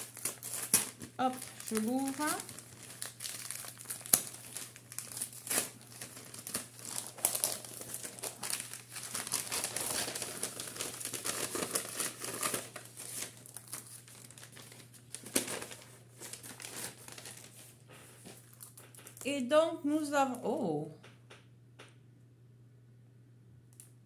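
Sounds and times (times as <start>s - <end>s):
packaging crinkling and rustling: 0.0s - 19.3s.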